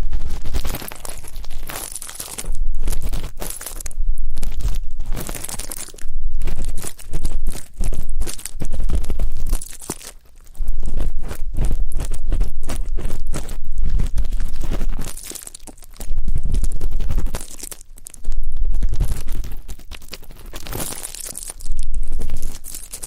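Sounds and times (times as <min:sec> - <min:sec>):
scratchy scraping and rustling: 0:00.0 - 0:23.0.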